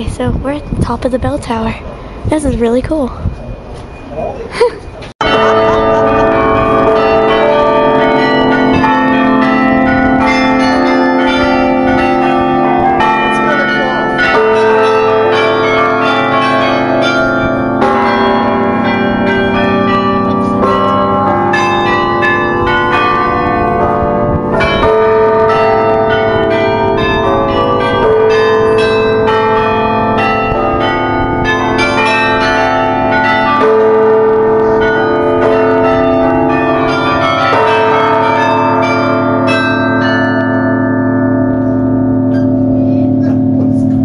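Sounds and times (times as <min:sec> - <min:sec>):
carillon bells playing tune: 0:04.6 - 0:44.0.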